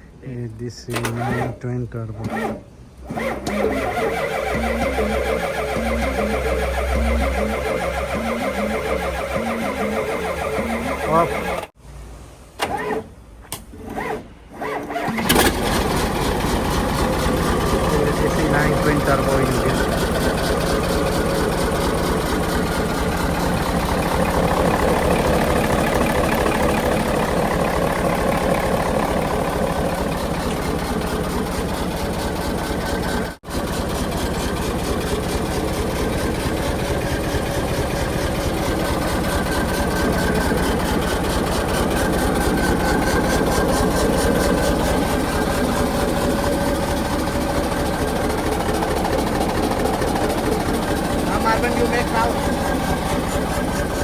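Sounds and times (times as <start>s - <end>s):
diesel engine idling: 1.6s - 11.8s, 15.2s - 54.0s.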